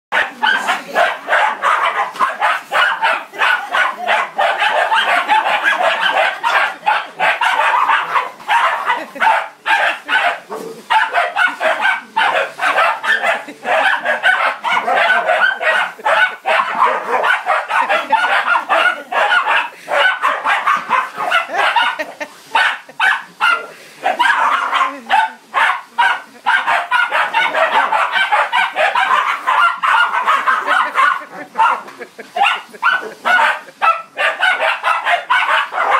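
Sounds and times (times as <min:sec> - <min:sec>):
dog barking: 0:00.1 - 0:35.9.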